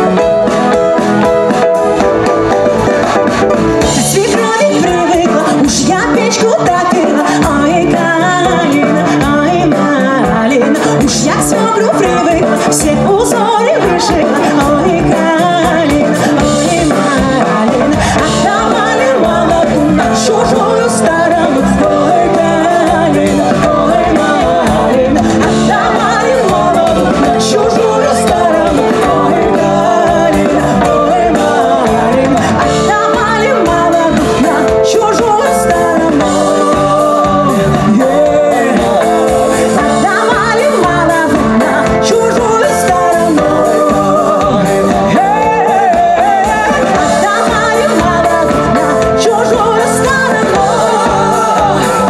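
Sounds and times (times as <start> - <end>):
folk band playing: 0.0 - 52.0
person singing: 0.0 - 52.0.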